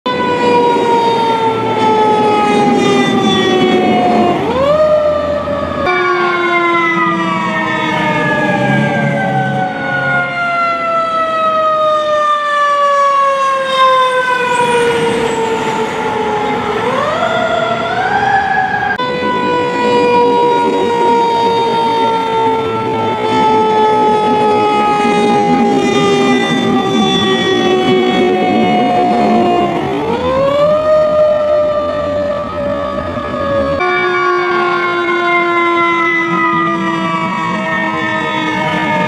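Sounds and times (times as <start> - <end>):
fire engine siren wailing: 0.0 - 39.0.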